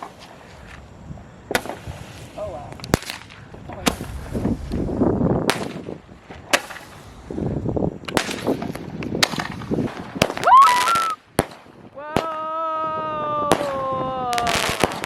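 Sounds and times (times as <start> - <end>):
firework whistling and hissing: 0.0 - 15.0
wind noise on microphone: 0.0 - 15.0
firecrackers banging: 1.4 - 12.5, 13.2 - 15.0.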